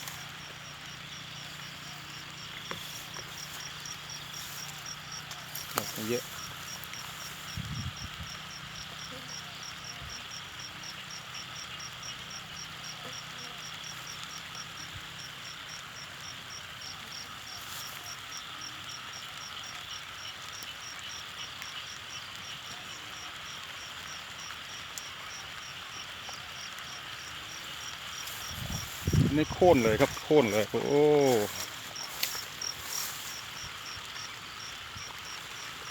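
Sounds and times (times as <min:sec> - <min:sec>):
insects chirping: 0:00.0 - 0:35.9.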